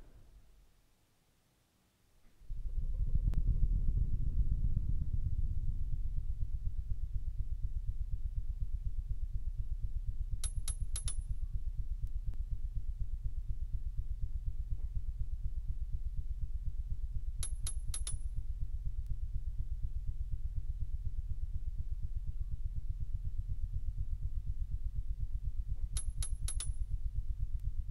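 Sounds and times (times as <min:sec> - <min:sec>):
low pulsing throb: 0:02.4 - 0:27.9.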